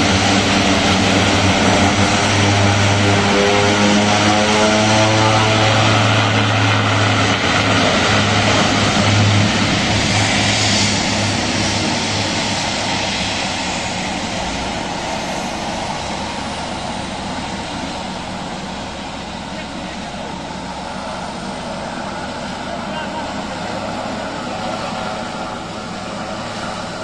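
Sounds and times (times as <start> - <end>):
propeller plane taking off: 0.0 - 27.0.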